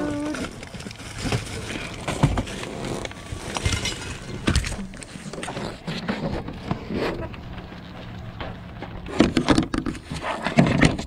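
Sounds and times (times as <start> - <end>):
plastic garbage bags rustling: 0.0 - 10.4.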